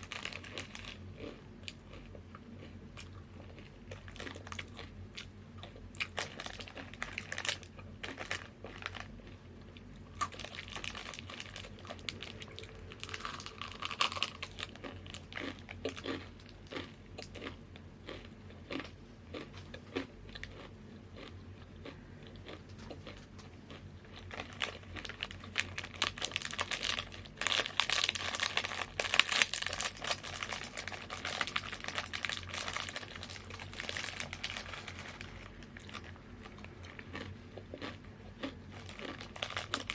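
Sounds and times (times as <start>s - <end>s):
chips crunching and chewed: 0.0s - 39.9s
snack bag crinkling: 0.0s - 39.9s.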